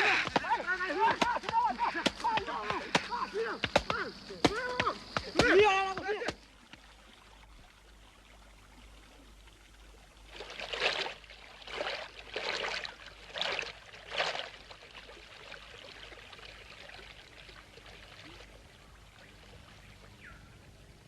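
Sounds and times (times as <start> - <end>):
water splashing: 0.0 - 20.8
faint steady hiss: 0.0 - 21.0.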